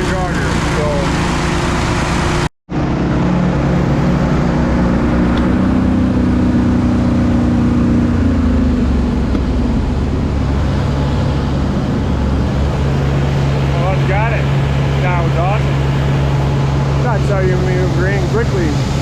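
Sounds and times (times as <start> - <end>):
engine and machinery drone: 0.0 - 19.0.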